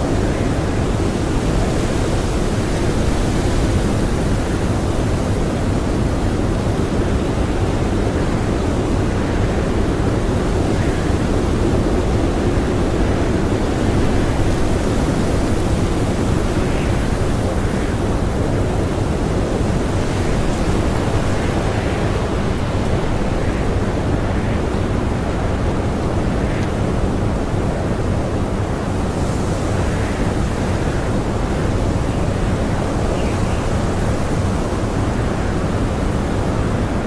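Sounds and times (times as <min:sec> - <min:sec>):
blizzard wind blowing: 0:00.0 - 0:37.0.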